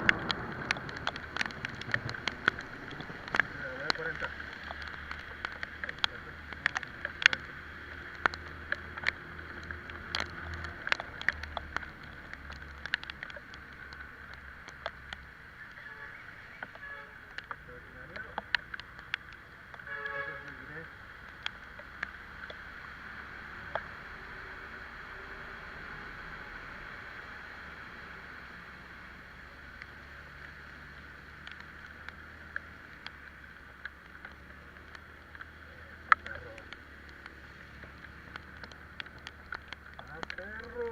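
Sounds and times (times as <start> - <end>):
raindrops hitting microphone: 0.0 - 40.9
wet road hiss: 0.0 - 40.9.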